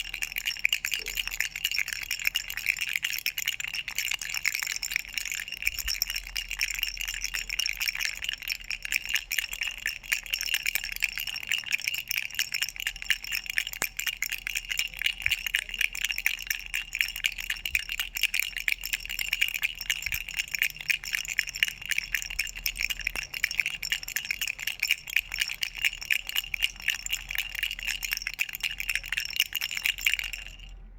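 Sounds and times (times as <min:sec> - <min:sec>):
toy rattle jingling: 0:00.0 - 0:30.8.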